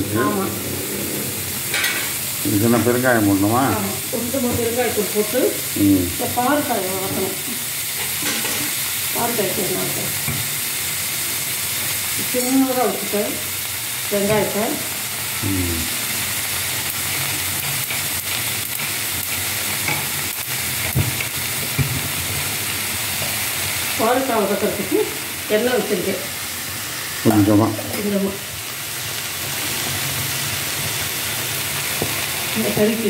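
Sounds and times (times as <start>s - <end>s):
okra sizzling: 0.0s - 33.0s.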